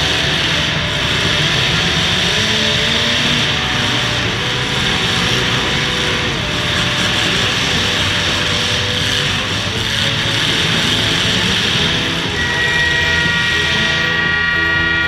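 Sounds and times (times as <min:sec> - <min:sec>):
several car engines running: 0:00.0 - 0:15.0.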